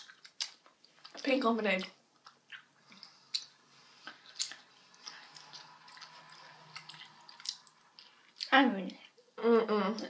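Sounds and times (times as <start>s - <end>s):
mouths chewing candy: 0.0s - 9.2s
faint steady hum: 0.0s - 10.0s.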